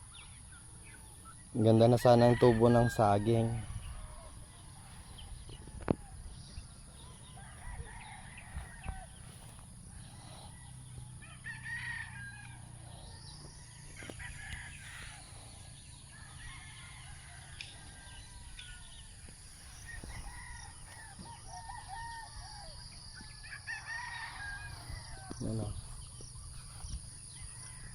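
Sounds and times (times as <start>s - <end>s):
rooster crowing: 1.7s - 26.0s, 26.6s - 27.9s.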